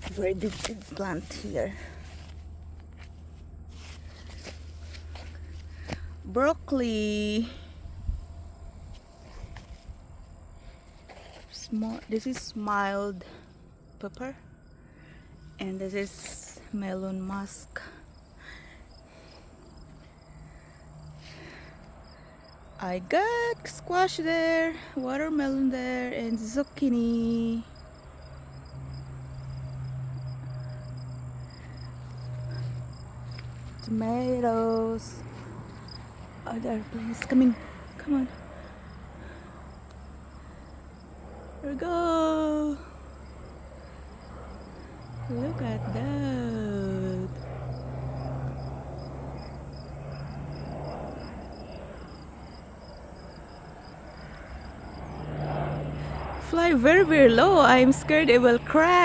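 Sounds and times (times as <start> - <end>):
airplane engine drone: 0.0 - 59.0
insects chirping: 0.0 - 59.0
low steady hum: 0.0 - 59.0.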